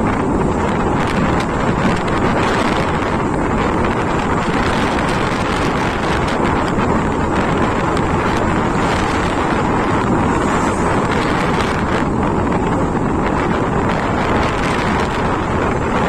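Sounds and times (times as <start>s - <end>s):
motorcycle running: 0.0s - 16.0s
road noise: 0.0s - 16.0s
wind rushing over microphone: 0.0s - 16.0s.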